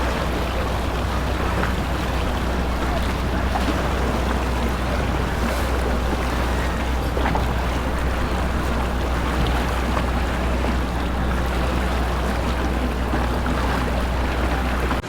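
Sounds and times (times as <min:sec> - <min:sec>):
boat engine rumbling: 0:00.0 - 0:15.0
water noise: 0:00.0 - 0:15.0.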